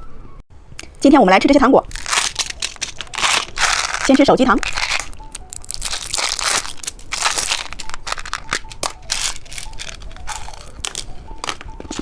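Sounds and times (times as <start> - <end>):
plastic candy wrapper crinkling: 1.9 - 12.0.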